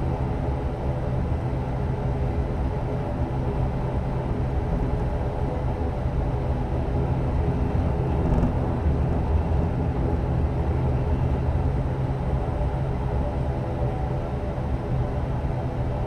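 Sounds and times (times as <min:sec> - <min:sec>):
airliner engines and propellers droning: 0:00.0 - 0:16.0.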